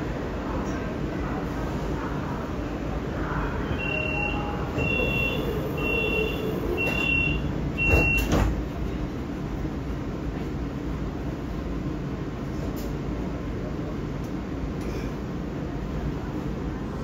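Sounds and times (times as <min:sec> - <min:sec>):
moving train rumble: 0:00.0 - 0:17.0.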